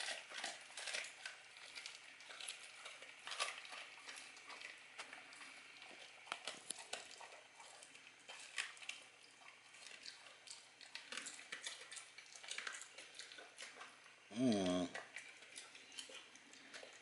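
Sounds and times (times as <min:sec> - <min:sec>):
dog chewing and crunching: 0:00.0 - 0:17.0.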